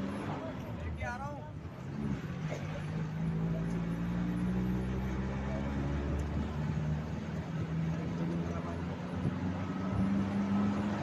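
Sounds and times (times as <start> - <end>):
engine running while driving: 0.0 - 11.0
road noise: 0.0 - 11.0.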